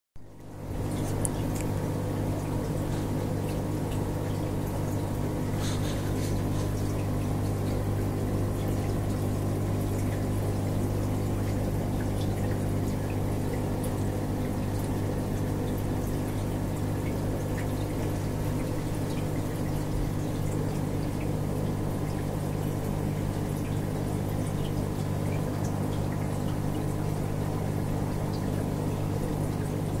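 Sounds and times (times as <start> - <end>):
aquarium pump humming: 0.2 - 30.0
water running through tank: 0.6 - 30.0.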